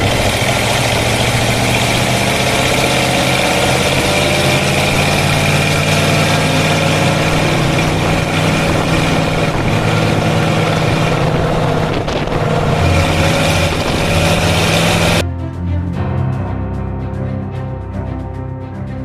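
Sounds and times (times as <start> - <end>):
truck engine running steadily: 0.0 - 15.2.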